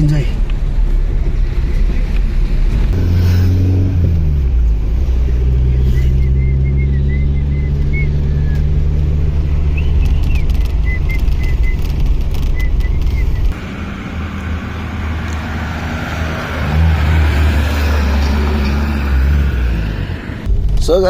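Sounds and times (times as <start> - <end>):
car engine and road drone: 0.0 - 21.0
tyre and road noise: 0.0 - 21.0.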